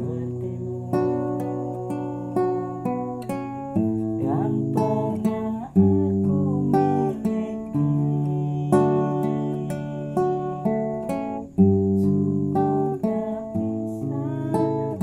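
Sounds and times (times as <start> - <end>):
classical guitar plucked melody: 0.0 - 15.0.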